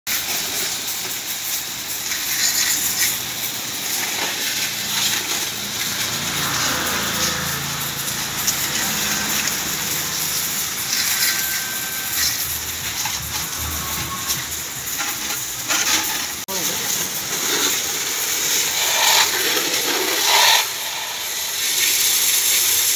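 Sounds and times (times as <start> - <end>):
pressure water jet spraying: 0.1 - 22.9.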